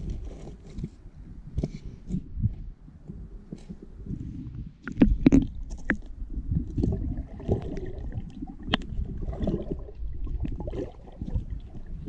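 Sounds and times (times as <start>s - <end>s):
muffled underwater water rumble: 0.0s - 12.0s.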